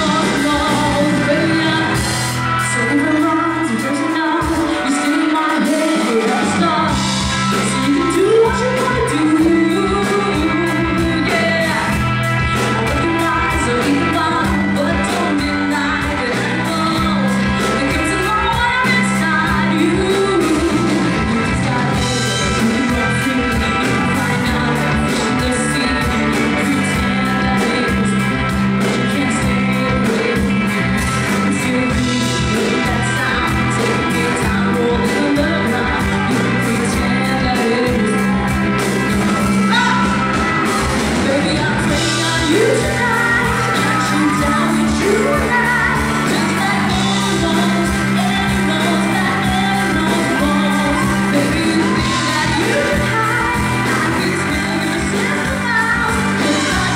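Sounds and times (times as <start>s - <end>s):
woman singing into a microphone: 0.0s - 40.3s, 41.1s - 56.9s
drum kit: 0.0s - 56.9s
electric bass guitar: 0.0s - 56.9s.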